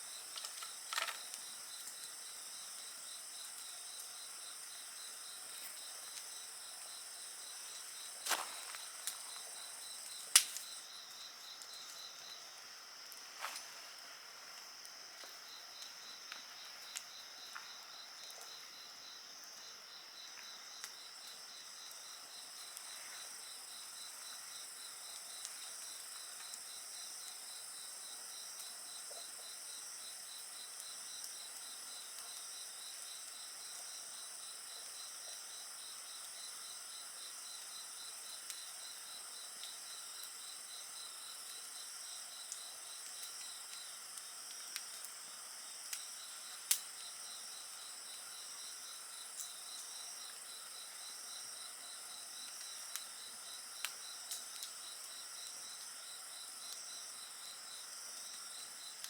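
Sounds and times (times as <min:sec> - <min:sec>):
wood fire crackling: 0:00.0 - 0:35.2, 0:38.3 - 0:59.0
insects trilling: 0:00.0 - 0:59.0.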